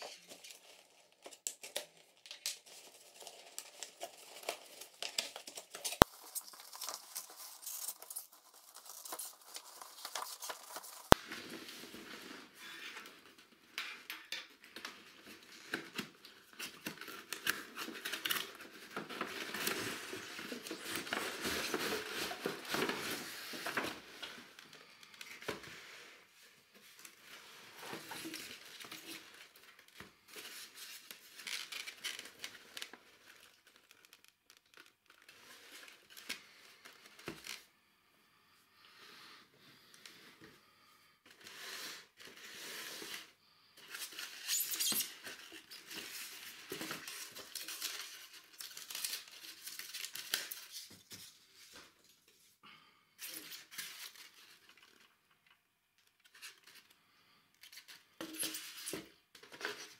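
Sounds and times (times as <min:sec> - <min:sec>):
cardboard rustling and crinkling: 0:00.0 - 0:13.7, 0:14.5 - 0:37.7, 0:41.3 - 0:52.6, 0:57.7 - 0:59.9.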